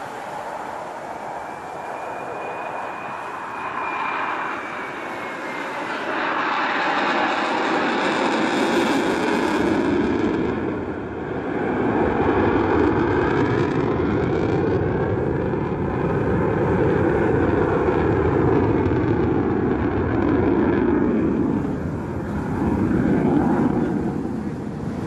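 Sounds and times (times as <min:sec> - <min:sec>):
jet plane passing overhead: 0:00.0 - 0:25.0.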